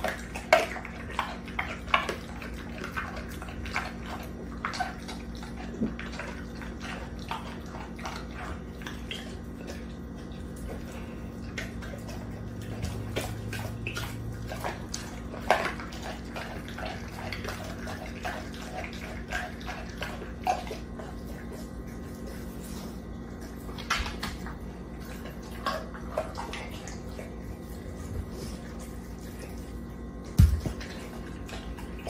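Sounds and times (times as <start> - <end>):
dog licking and chewing: 0.0 - 32.0
steady low hum: 0.0 - 32.0.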